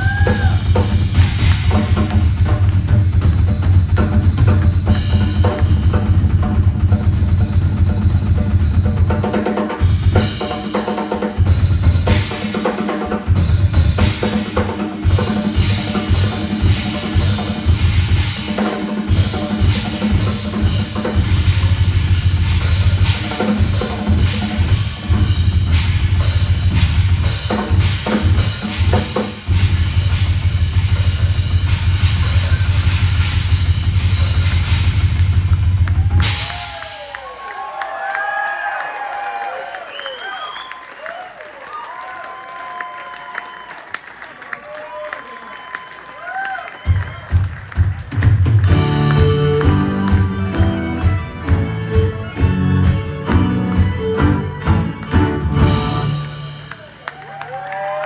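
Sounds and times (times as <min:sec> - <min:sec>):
rock drum kit playing: 0:00.0 - 0:37.2, 0:46.8 - 0:58.0.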